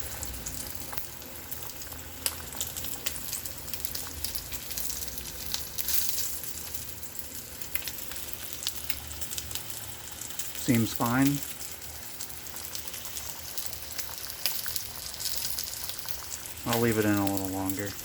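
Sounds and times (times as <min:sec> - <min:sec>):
sausages sizzling in a pan: 0:00.0 - 0:18.0.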